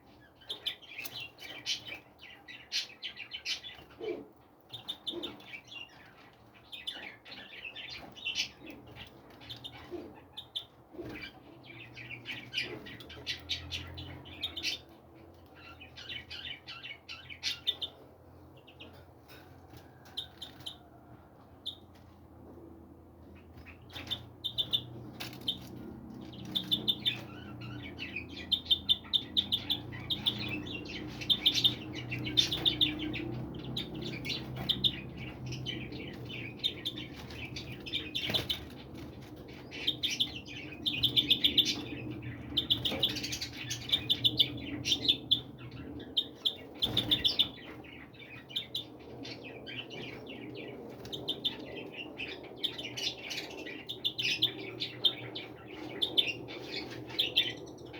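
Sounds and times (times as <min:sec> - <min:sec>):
low steady background hum: 0:00.0 - 0:57.9
small birds chirping: 0:00.0 - 0:57.9.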